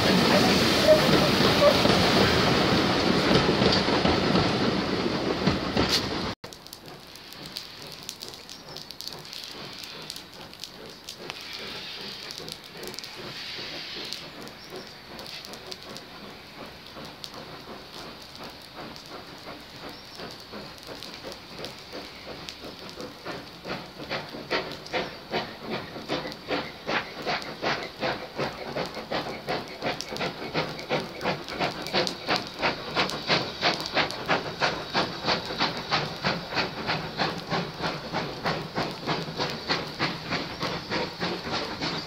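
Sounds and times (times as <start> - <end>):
steam hissing: 0.0 - 42.0
steam locomotive exhaust beats: 0.0 - 42.0.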